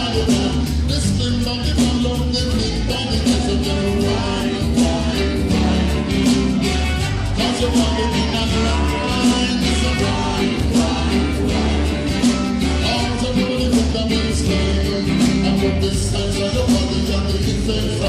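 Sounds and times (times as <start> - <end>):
heavy bass line: 0.0 - 18.0
person singing: 0.0 - 18.0
reggae band playing: 0.0 - 18.0.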